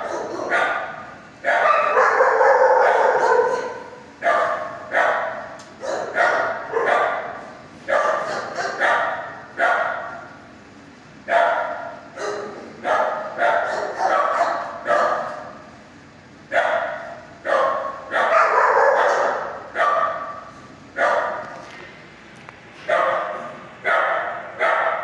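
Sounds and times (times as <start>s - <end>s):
dogs barking with echo: 0.0s - 10.3s, 11.3s - 15.7s, 16.5s - 21.5s, 22.8s - 25.0s.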